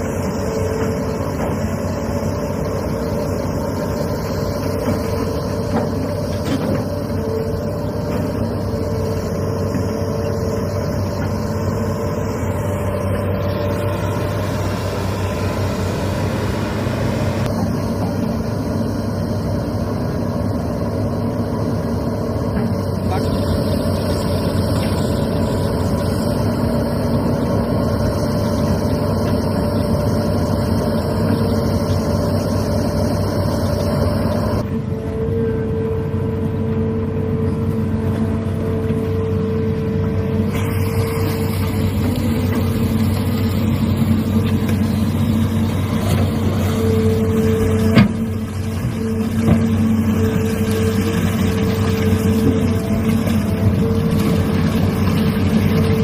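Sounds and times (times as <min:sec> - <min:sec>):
excavator diesel engines running: 0:00.0 - 0:56.0.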